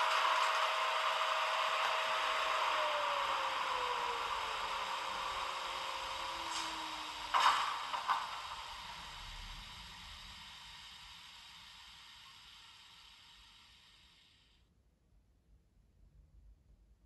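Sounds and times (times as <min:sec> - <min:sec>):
electric locomotive whine: 0:00.0 - 0:14.6.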